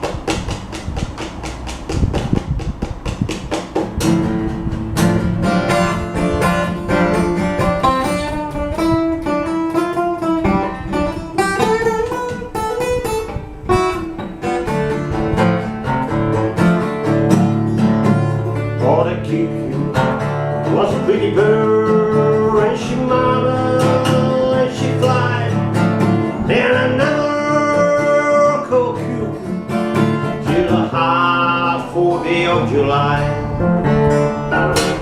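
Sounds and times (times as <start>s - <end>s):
acoustic guitar folk tune: 0.0s - 35.0s.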